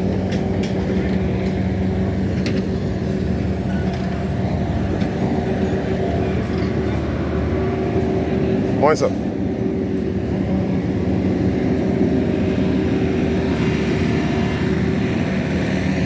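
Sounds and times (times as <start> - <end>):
steady engine hum: 0.0 - 16.0.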